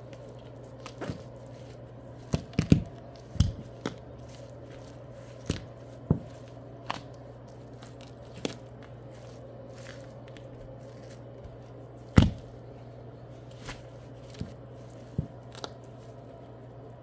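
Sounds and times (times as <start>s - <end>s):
steady low hum: 0.0s - 17.0s
feet stomping on crushed cucumber: 0.7s - 12.6s, 13.5s - 15.7s.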